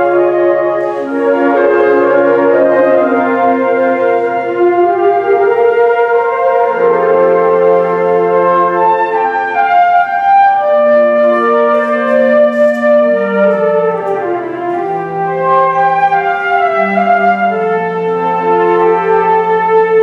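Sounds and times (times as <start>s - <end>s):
flute choir playing chords: 0.0s - 20.0s.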